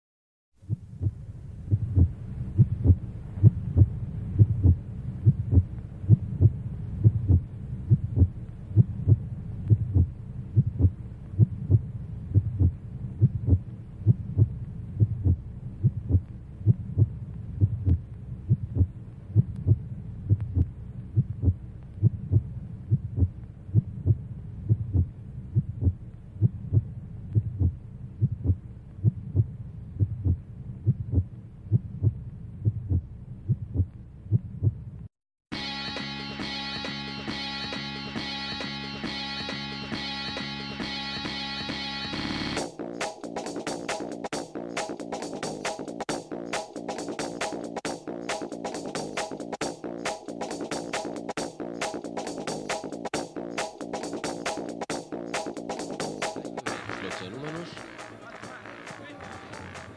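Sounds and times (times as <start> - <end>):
deep regular thumping beat: 0.6 - 34.9, 36.4 - 59.9.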